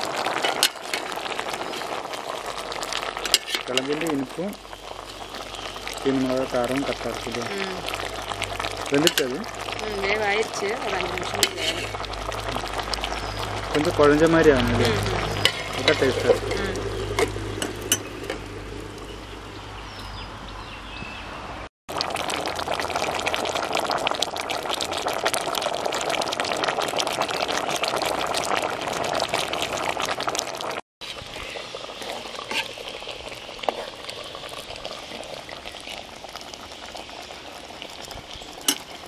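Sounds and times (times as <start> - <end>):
water boiling in a pot: 0.0 - 19.6, 21.9 - 39.0.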